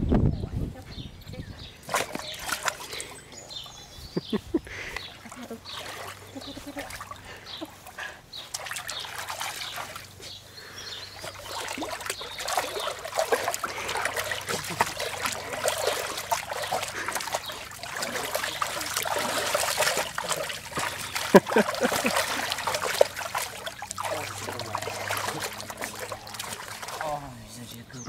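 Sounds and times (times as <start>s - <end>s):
dog splashing in shallow water: 1.7s - 4.3s, 4.9s - 27.8s
bare feet moving in water: 1.7s - 28.0s.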